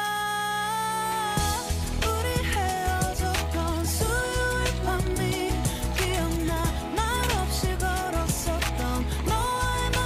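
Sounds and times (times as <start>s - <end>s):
person singing: 0.0s - 10.0s
bass line: 1.4s - 10.0s
steady drum beat: 1.4s - 10.0s.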